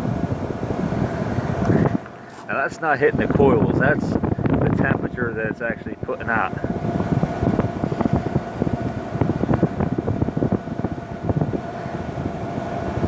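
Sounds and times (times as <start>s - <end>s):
air conditioner fan rushing air: 0.0s - 13.0s
wind gusts on microphone: 0.0s - 13.0s.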